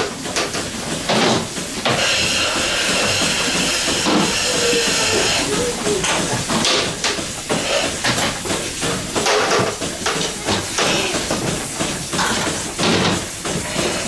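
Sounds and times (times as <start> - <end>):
knocks and clatter: 0.0 - 4.3, 6.0 - 14.0
milking machine vacuum hissing: 0.0 - 14.0.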